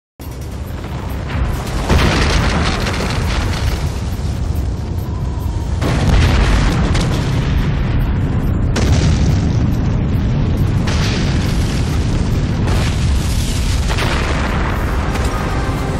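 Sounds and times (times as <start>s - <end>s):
continuous deep rumble: 0.2s - 15.9s
heavy booms of eruption: 0.4s - 15.9s.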